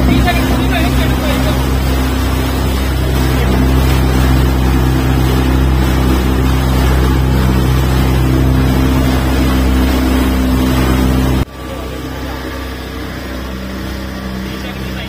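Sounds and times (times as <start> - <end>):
motorboat engine droning: 0.0 - 15.0
water rushing along hull: 0.0 - 15.0.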